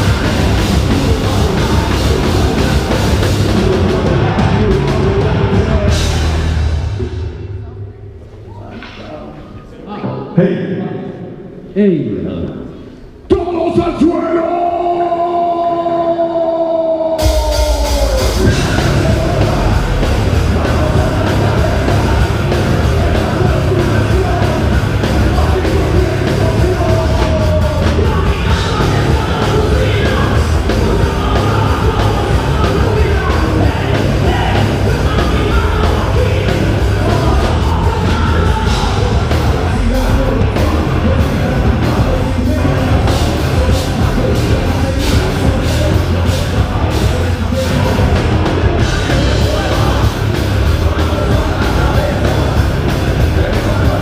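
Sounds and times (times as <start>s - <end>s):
heavy rock band playing: 0.0s - 7.6s, 17.2s - 54.0s.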